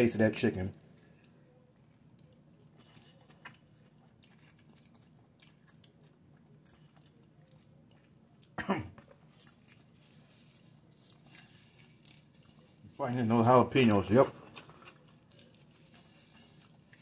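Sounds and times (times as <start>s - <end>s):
person chewing crunchy food: 1.2s - 13.0s, 14.2s - 17.0s.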